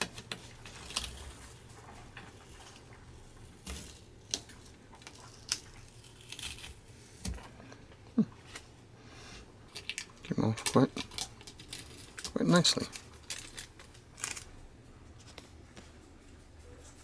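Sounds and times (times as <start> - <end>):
paper crinkling: 0.0 - 8.7, 9.7 - 17.0.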